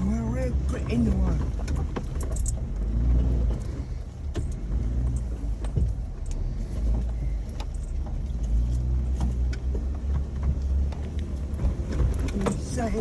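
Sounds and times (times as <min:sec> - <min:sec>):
engine low rumble: 0:00.0 - 0:13.0
loose gear rattling: 0:00.9 - 0:13.0.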